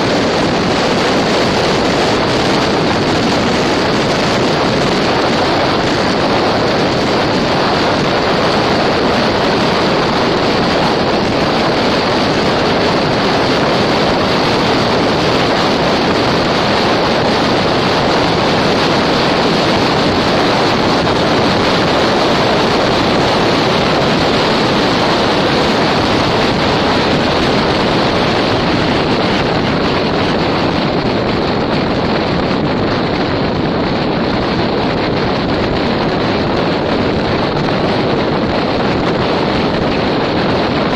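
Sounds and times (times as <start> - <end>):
car road noise: 0.0 - 40.9
wind rushing: 0.0 - 40.9.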